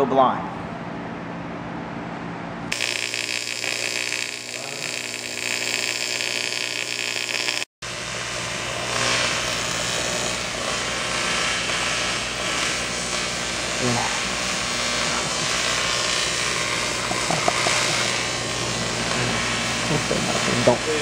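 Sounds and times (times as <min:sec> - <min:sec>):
electric welding arc crackling: 0:02.7 - 0:21.0.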